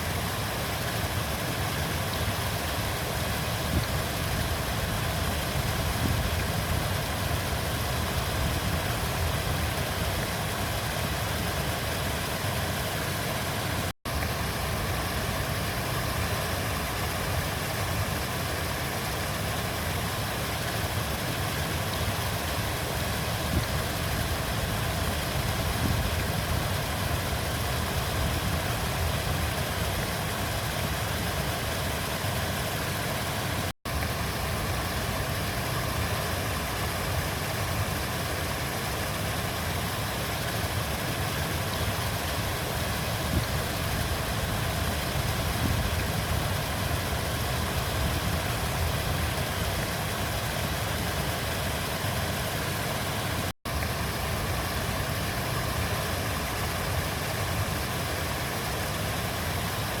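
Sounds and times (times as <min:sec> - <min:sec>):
river water flowing: 0:00.0 - 1:00.0.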